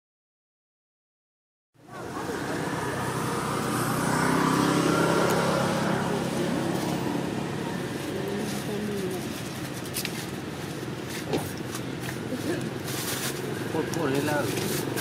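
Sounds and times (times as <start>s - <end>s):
vehicle engine passing: 1.8s - 15.0s.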